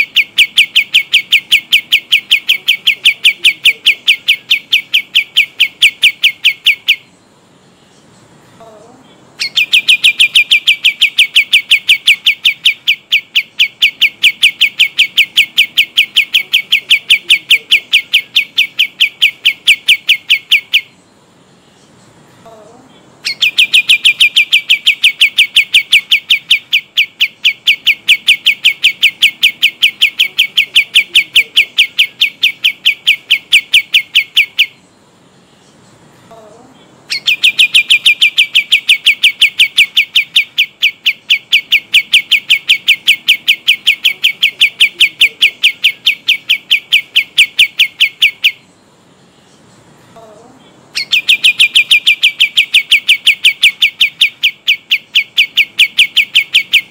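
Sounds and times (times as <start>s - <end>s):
songbird trilling: 0.0s - 56.9s.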